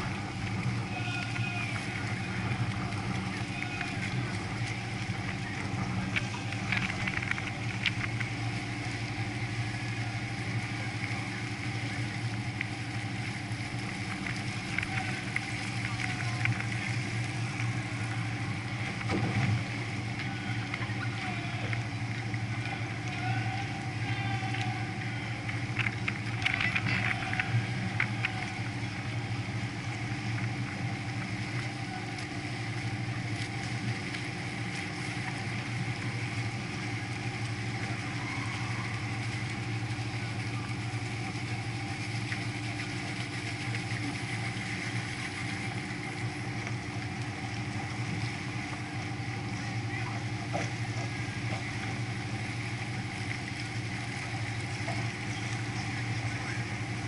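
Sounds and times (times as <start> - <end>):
boat engine humming: 0.0 - 57.0
water and air noise: 0.0 - 57.0.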